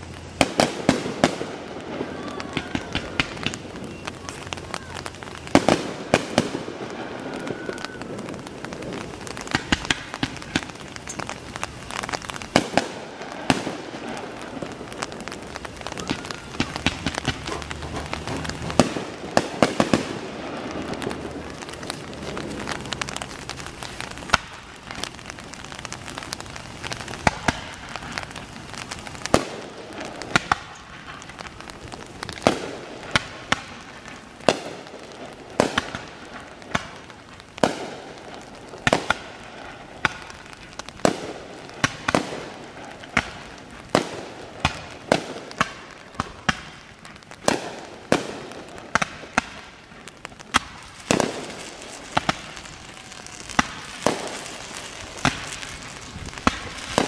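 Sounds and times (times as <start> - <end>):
fireworks bangs: 0.0 - 57.0
steady hiss: 0.0 - 57.0.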